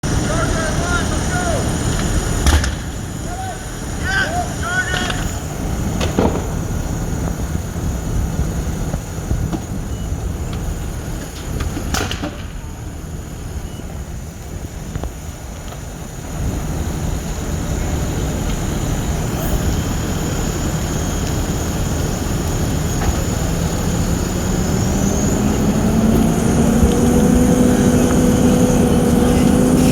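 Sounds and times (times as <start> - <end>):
large vehicle engine rumbling: 0.0 - 29.9.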